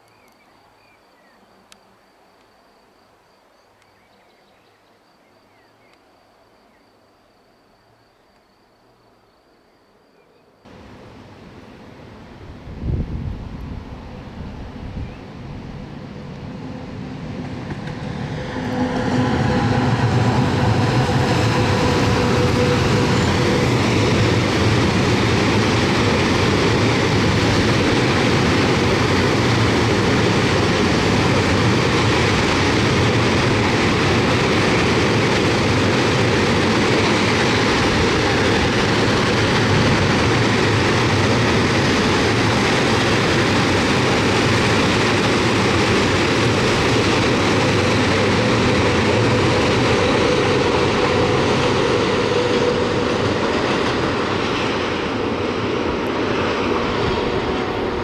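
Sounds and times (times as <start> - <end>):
freight train rumbling past: 10.7 - 58.0.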